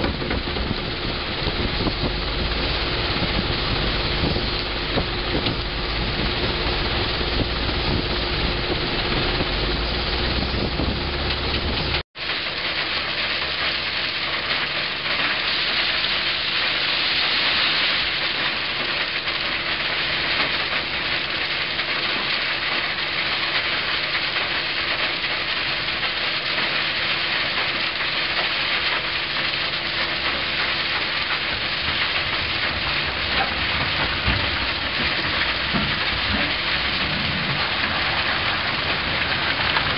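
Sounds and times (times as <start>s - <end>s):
engine hum: 0.0s - 39.9s.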